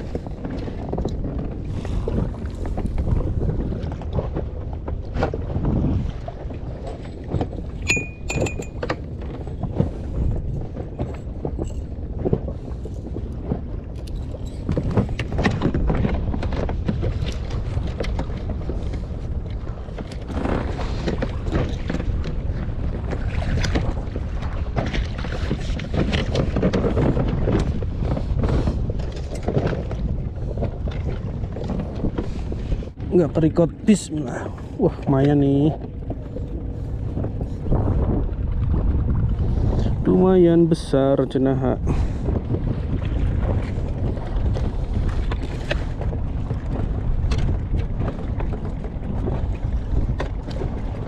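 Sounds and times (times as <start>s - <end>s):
water slapping boat hull: 0.0s - 51.0s
wind buffeting microphone: 0.0s - 51.0s.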